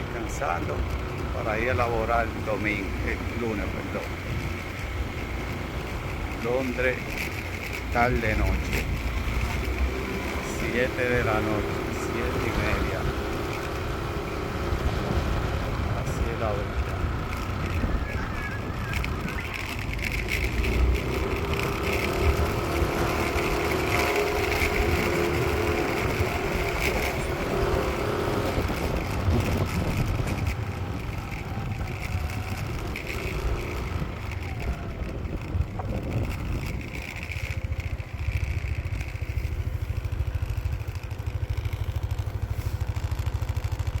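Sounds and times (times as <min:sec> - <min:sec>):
passing vehicle rumble: 0:00.0 - 0:44.0.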